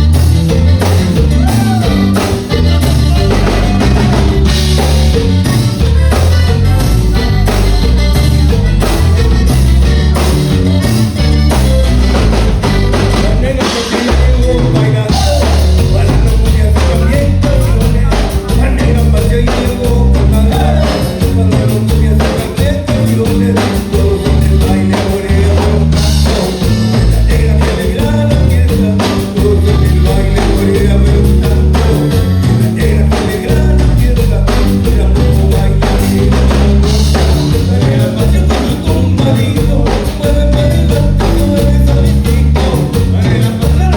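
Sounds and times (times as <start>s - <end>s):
drum kit: 0.0s - 43.9s
heavy bass line: 0.0s - 43.9s
live band playing dance music: 0.0s - 43.9s.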